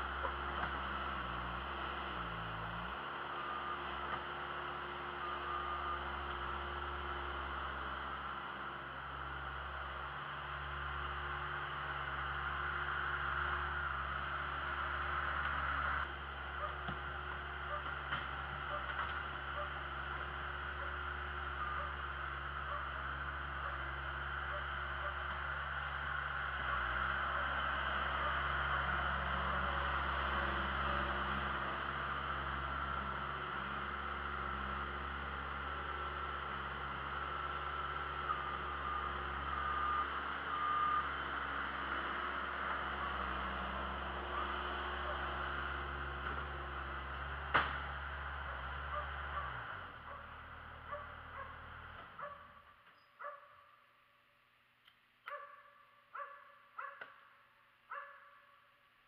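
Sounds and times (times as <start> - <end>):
loader engine running: 0.0 - 53.1.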